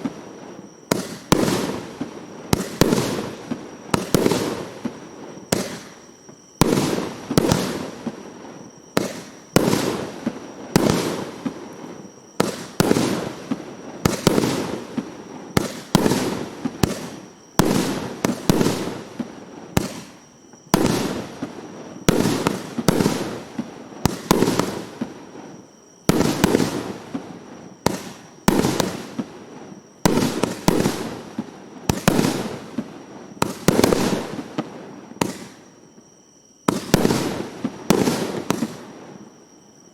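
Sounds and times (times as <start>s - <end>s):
fireworks bangs: 0.0s - 35.7s, 36.6s - 39.6s.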